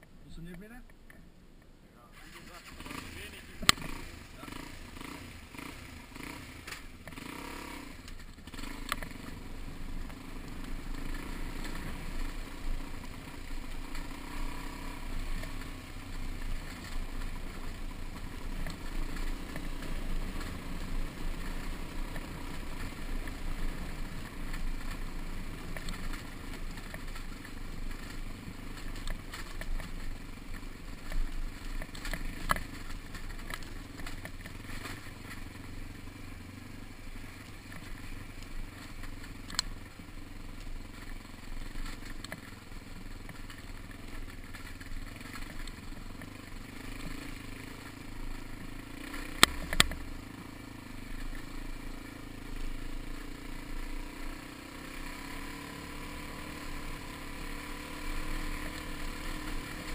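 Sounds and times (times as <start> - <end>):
bike rattling over ground: 2.2 - 59.9
dirt bike engine running: 2.2 - 59.9.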